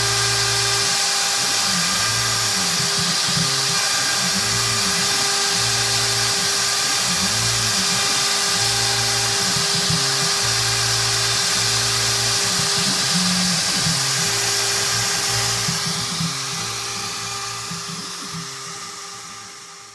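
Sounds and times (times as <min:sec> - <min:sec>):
router spindle cutting: 0:00.0 - 0:19.9.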